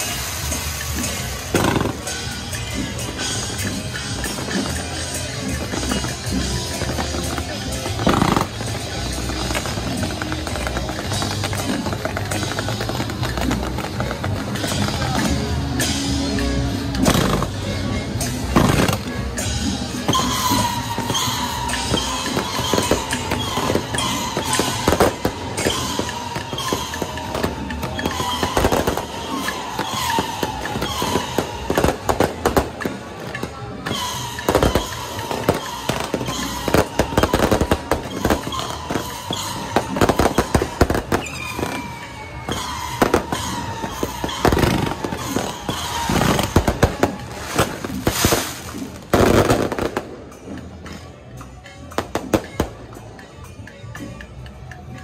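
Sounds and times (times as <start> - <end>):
fireworks bangs and crackles: 0.0 - 54.3
music playing: 0.0 - 55.0.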